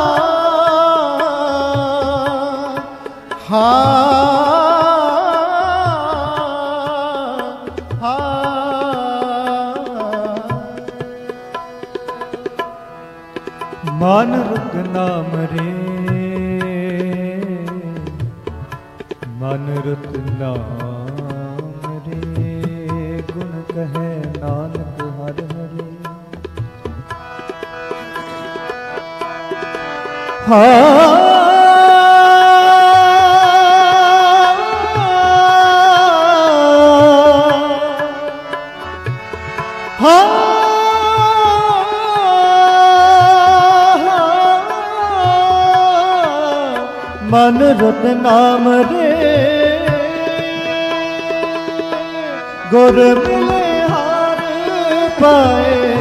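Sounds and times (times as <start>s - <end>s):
man singing: 0.0s - 12.7s, 13.6s - 27.0s, 30.3s - 56.0s
harmonium melody: 0.0s - 56.0s
tabla strokes: 0.0s - 56.0s.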